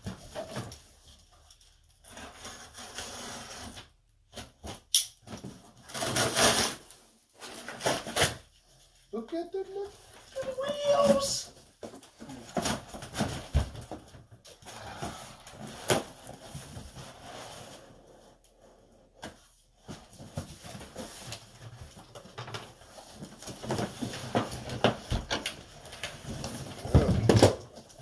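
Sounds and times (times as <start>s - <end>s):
cardboard rustling and scraping: 0.0s - 8.7s, 10.0s - 28.0s.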